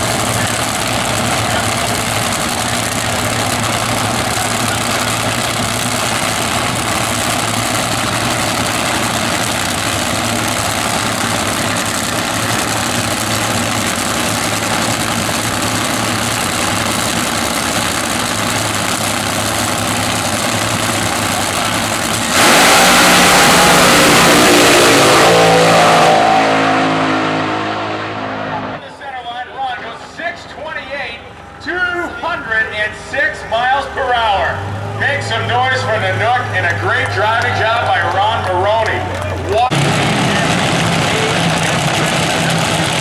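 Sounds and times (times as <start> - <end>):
drag racing engines: 0.0 - 43.0.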